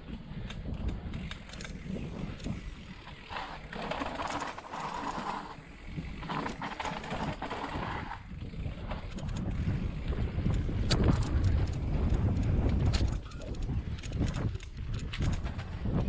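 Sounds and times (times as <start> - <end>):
bike clicks and rattles: 0.0 - 16.0
bike tyre rumble on dirt: 0.0 - 16.0
wind on microphone: 0.0 - 16.0.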